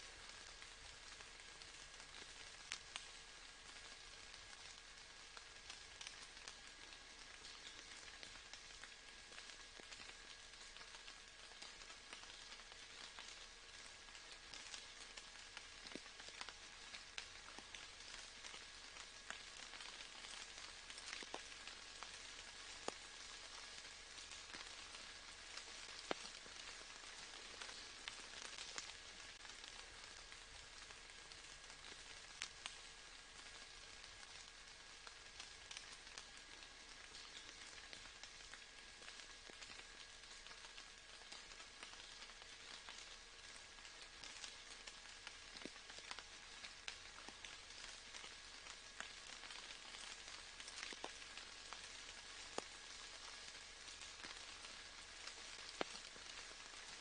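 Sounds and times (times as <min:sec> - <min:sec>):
rain hiss: 0:00.0 - 0:57.0
single raindrops ticking: 0:00.0 - 0:57.0.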